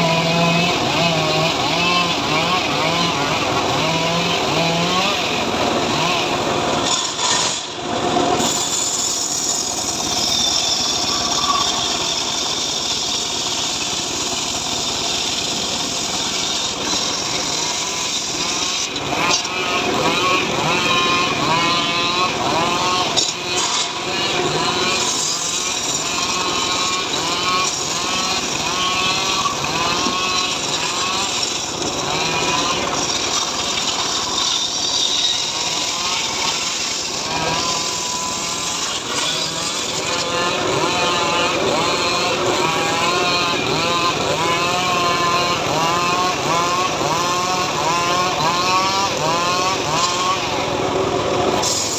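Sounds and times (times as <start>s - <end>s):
small petrol engine running: 0.0s - 51.9s.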